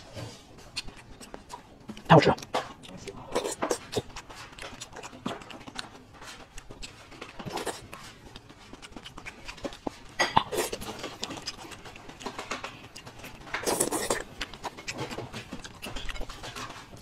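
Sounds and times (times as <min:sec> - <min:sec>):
wet chewing mouth sounds: 0:00.0 - 0:17.0.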